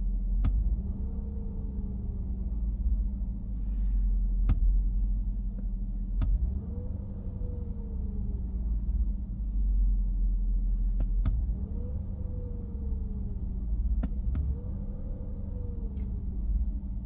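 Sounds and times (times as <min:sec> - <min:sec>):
car engine rough idle: 0:00.0 - 0:17.0.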